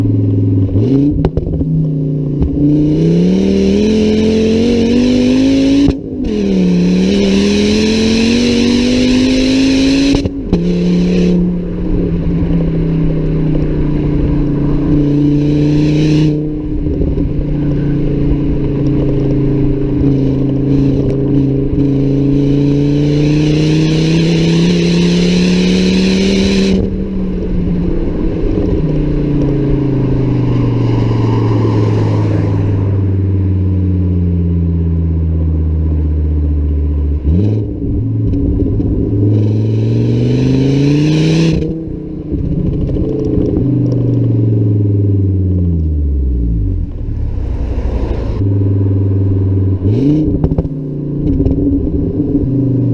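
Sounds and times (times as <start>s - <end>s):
car exhaust under acceleration: 0.0s - 52.9s.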